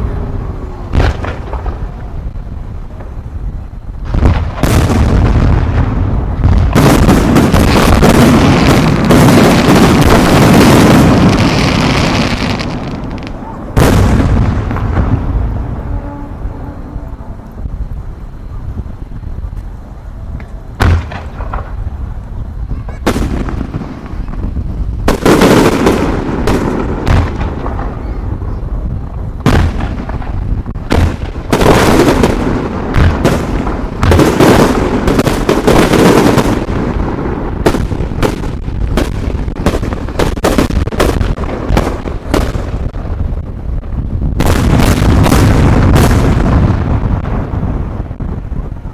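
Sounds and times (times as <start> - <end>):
fireworks bangs and crackling: 0.0 - 16.5, 17.6 - 48.9.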